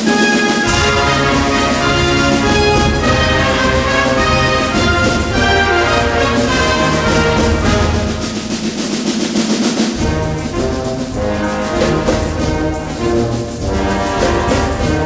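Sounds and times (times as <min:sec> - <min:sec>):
wind band playing a mambo: 0:00.0 - 0:15.0.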